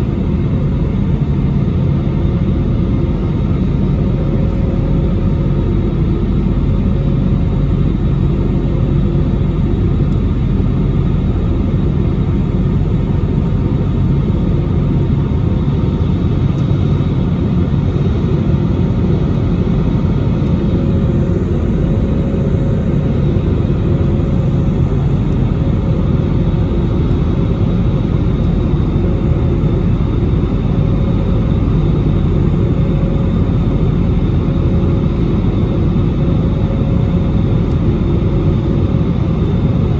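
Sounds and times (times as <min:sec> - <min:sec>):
airliner cabin engine rumble: 0:00.0 - 0:39.9
faint steady hums: 0:00.0 - 0:39.9.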